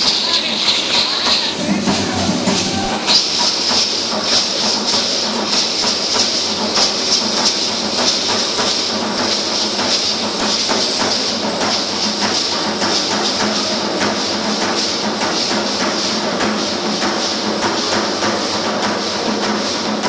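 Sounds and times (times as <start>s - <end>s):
rattles and costume fringes shaking: 0.0s - 20.0s
rhythmic clicks: 0.0s - 20.0s.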